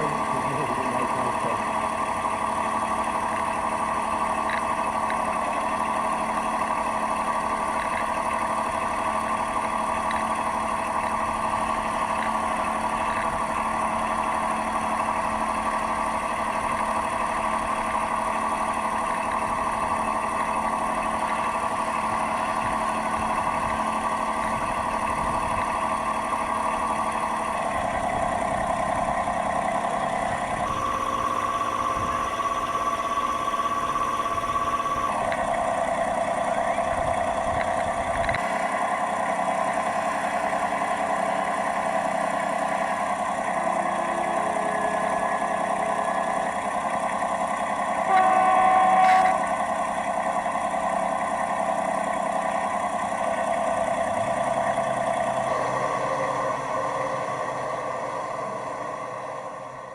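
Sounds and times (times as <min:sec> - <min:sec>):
model boat engine drone: 0:00.0 - 0:59.9.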